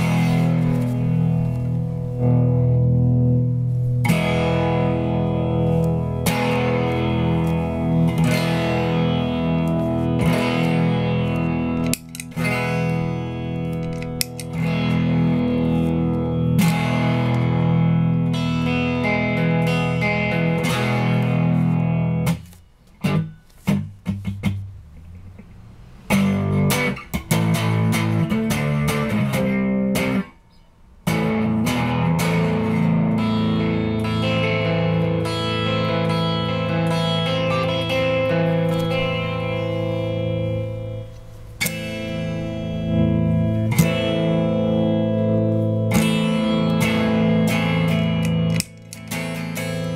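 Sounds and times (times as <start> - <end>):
electric guitar sustained chords: 0.0 - 30.4, 31.0 - 49.9.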